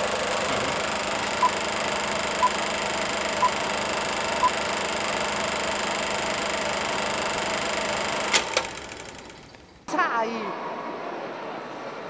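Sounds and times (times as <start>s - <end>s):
sharp clicks: 0.0s - 9.8s
film projector whirring clatter: 0.0s - 9.9s.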